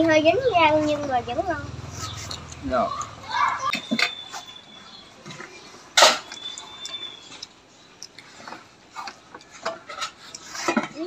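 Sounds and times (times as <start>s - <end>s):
chewing: 1.9s - 11.0s.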